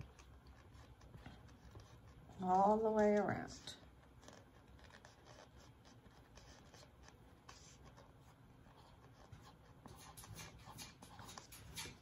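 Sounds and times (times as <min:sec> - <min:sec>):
marker scratching on paper plate: 0:00.0 - 0:12.0.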